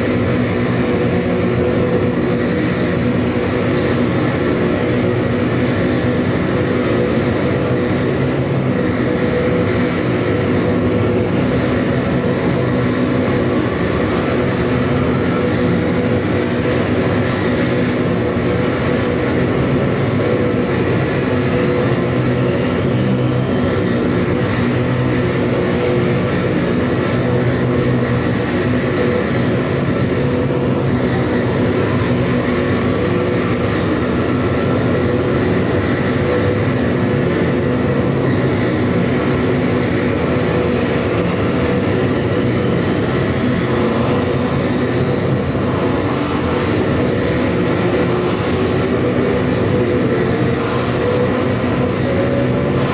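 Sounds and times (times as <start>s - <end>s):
distorted electronic noise music: 0.0s - 52.9s.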